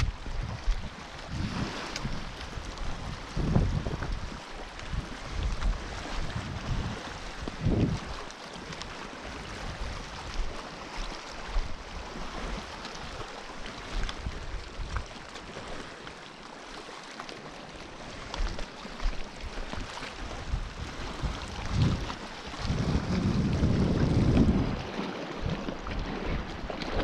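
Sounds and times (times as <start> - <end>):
wind gusts on microphone: 0.0 - 15.7, 18.1 - 27.0
wind and water hiss: 0.0 - 27.0.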